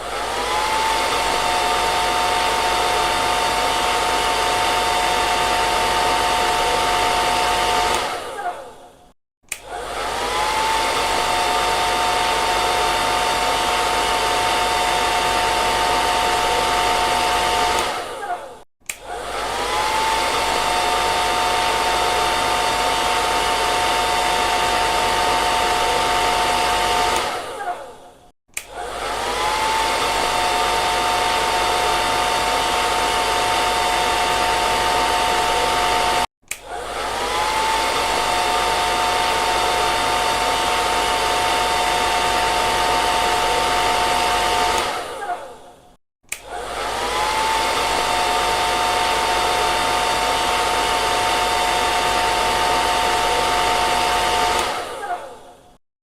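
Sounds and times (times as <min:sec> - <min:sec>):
hair dryer running: 0:00.0 - 0:55.8.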